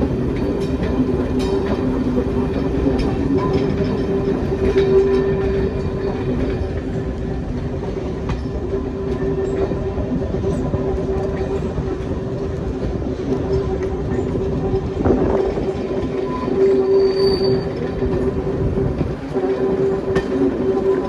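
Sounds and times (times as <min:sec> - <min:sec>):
diesel locomotive droning hum: 0:00.0 - 0:21.0
train wheels rumbling on track: 0:00.0 - 0:21.0.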